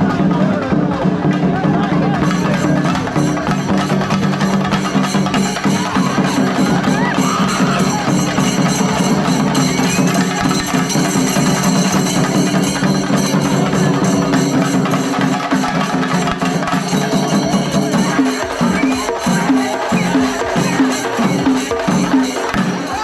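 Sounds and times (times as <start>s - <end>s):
cymbals: 0.0s - 23.0s
drums beaten fast: 0.0s - 23.0s.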